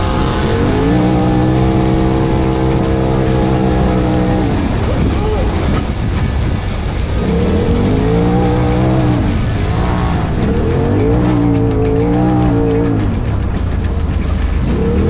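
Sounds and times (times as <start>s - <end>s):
background music: 0.0s - 15.0s
engine revving hard: 0.0s - 15.0s.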